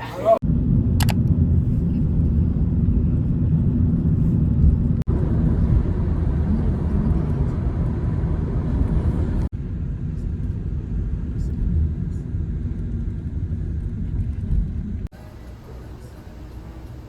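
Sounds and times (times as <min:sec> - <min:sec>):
steady low rumbling: 0:00.0 - 0:17.0.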